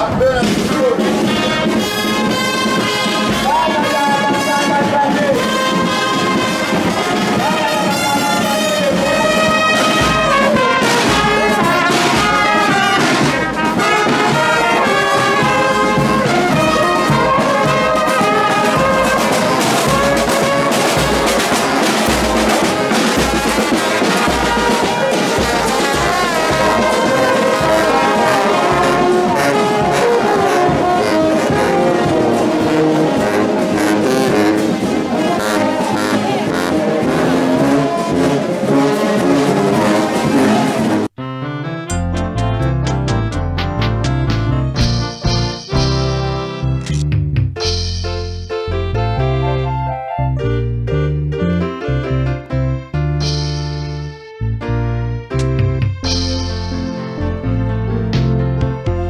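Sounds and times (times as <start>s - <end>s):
bass drum beat: 0.0s - 36.5s, 42.0s - 51.8s, 54.6s - 59.0s
marching brass band playing: 0.0s - 47.0s, 47.6s - 50.1s, 53.2s - 59.0s.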